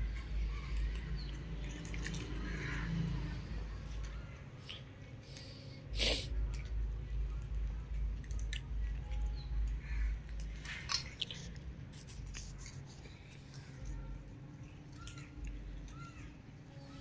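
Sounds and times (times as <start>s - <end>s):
cats crunching food: 0.0s - 5.5s, 6.3s - 16.2s.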